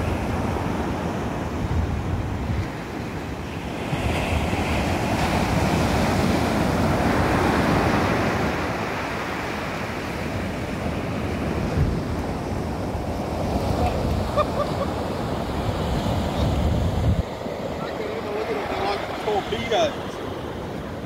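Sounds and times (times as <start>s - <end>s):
surf washing up beach: 0.0s - 21.0s
wind buffeting microphone: 0.0s - 21.0s.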